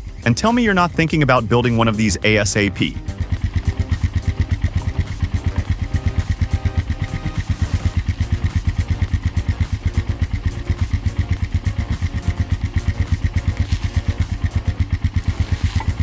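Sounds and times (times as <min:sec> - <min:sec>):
engine idling with slow chug: 0:00.0 - 0:16.0.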